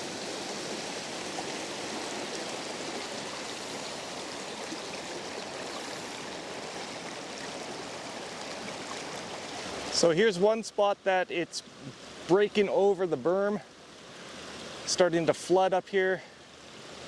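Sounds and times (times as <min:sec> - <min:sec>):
fast-flowing creek water: 0:00.0 - 0:17.0.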